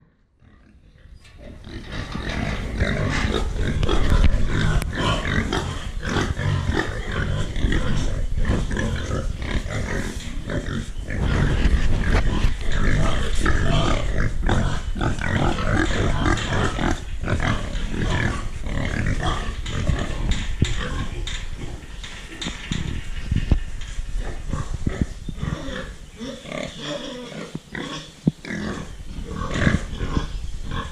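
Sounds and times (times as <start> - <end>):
pigs grunting: 0.0 - 30.9.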